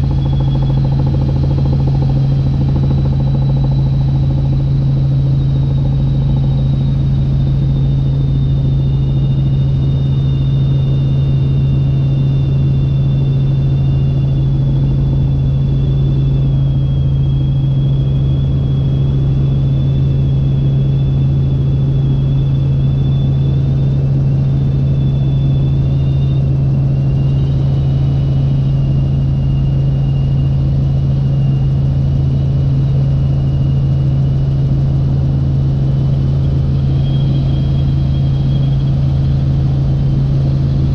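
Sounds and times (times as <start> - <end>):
helicopter engine and rotor drone: 0.0 - 40.9
high-pitched whines: 0.0 - 40.9.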